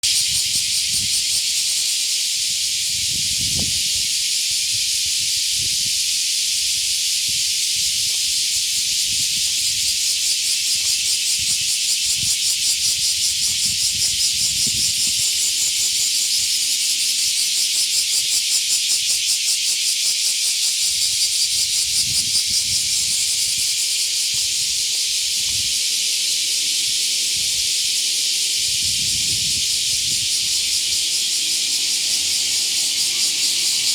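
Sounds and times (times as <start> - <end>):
cicadas shrilling: 0.0 - 33.9.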